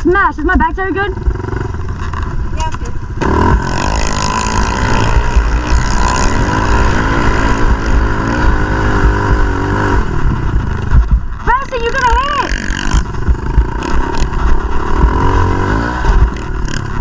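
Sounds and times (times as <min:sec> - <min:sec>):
pit bike engine revving: 0:00.6 - 0:17.0.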